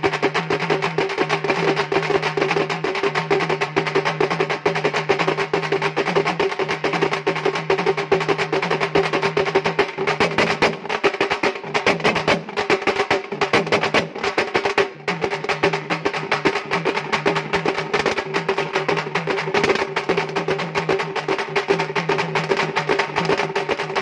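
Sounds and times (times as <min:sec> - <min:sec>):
frame drums in fast rhythm: 0:00.0 - 0:24.0.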